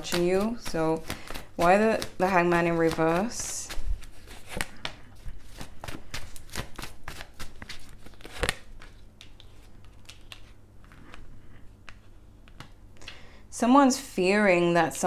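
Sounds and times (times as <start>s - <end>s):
cards shuffled by hand: 0.0s - 12.8s.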